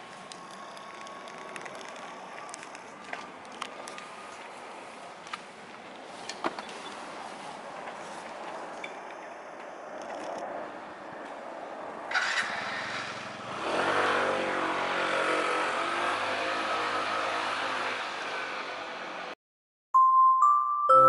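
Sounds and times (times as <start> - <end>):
street traffic hiss: 0.0 - 19.4.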